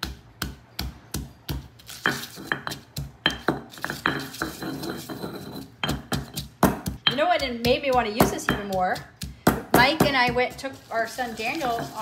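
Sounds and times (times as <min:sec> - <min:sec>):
stone pestle pounding in mortar: 0:00.0 - 0:10.8.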